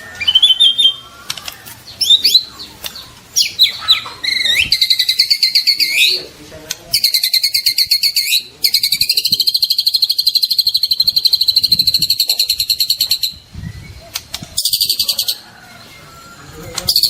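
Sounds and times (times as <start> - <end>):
bird whistling song: 0.0 - 1.1, 1.9 - 6.2, 6.9 - 16.3.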